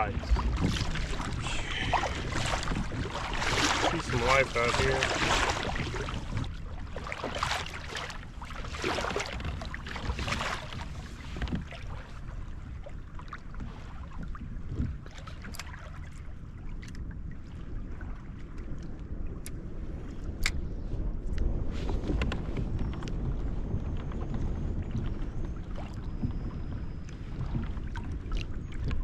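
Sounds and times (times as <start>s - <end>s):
wind and water noise: 0.0s - 29.0s.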